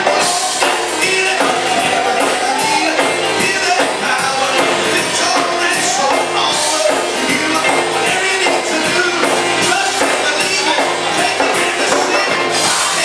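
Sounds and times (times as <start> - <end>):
drums: 0.0 - 13.0
live band playing upbeat song: 0.0 - 13.0
person singing: 0.0 - 13.0.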